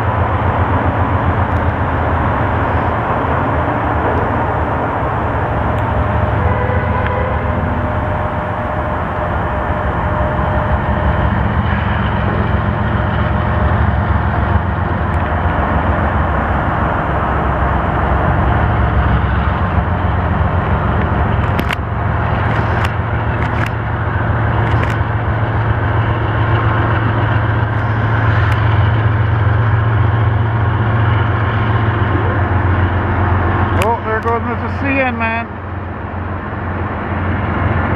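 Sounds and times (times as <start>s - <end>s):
diesel locomotive engine drone: 0.0s - 37.9s.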